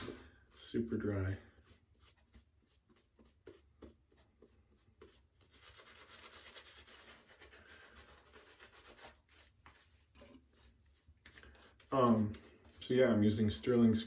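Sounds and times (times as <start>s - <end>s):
shaving brush rustling on face: 0.0s - 14.0s.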